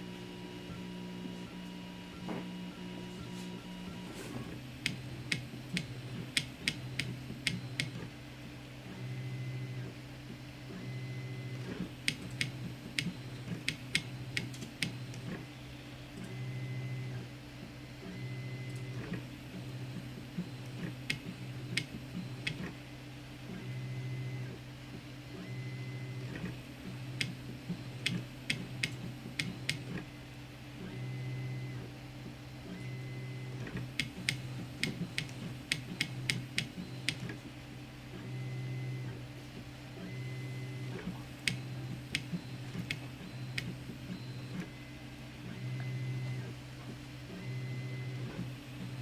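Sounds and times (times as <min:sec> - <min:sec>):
printer stepper motors humming: 0:00.0 - 0:49.0.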